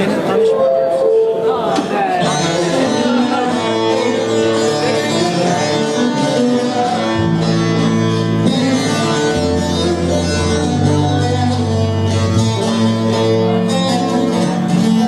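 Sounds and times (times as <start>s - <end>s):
sustained keyboard notes: 0.0s - 12.5s.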